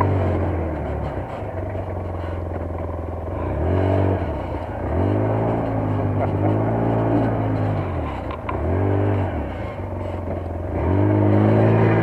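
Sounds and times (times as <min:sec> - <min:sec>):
buggy engine revving: 0:00.0 - 0:12.0.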